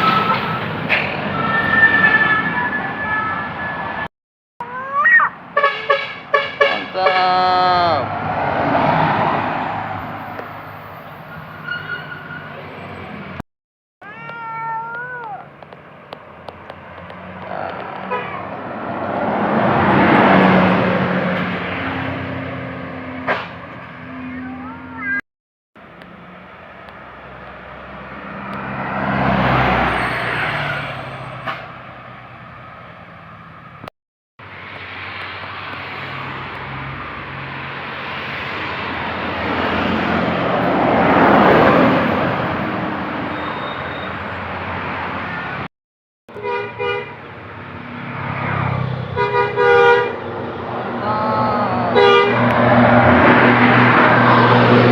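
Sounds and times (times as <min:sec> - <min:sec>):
buses driving past: 0:00.0 - 0:04.1, 0:05.4 - 0:13.4, 0:14.9 - 0:25.0, 0:25.8 - 0:33.8, 0:34.4 - 0:45.7, 0:46.4 - 0:54.9.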